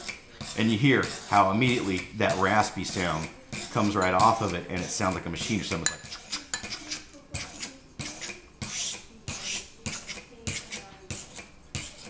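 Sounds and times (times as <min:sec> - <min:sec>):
sharpening stone rasping on knife: 0:00.0 - 0:12.0.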